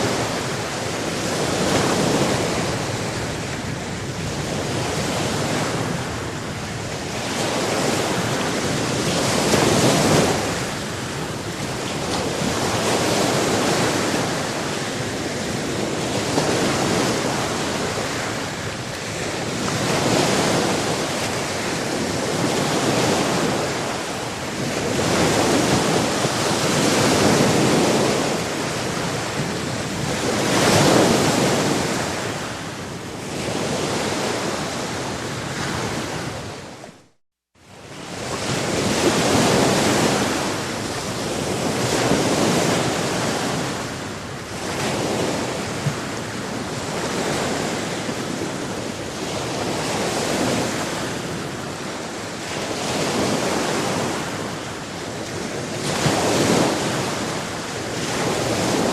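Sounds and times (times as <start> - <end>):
sea waves washing onto shore: 0.0 - 58.9.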